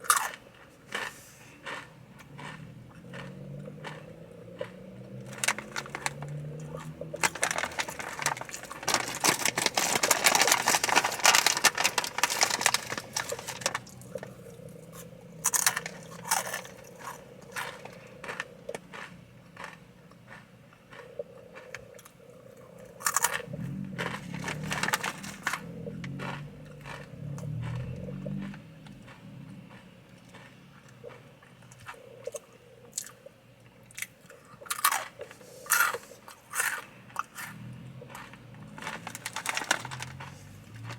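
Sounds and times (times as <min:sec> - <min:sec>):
chips crunching: 0:00.0 - 0:32.4, 0:33.9 - 0:40.9
person chewing: 0:00.0 - 0:33.3, 0:33.9 - 0:40.9.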